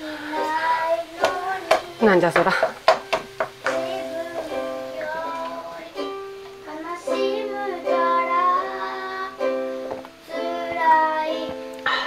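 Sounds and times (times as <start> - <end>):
child singing: 0.0 - 2.0, 3.6 - 12.0.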